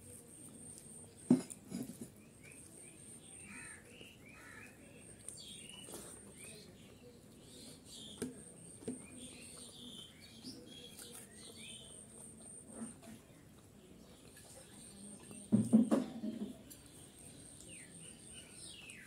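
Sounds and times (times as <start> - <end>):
small birds chirping: 2.1 - 19.0.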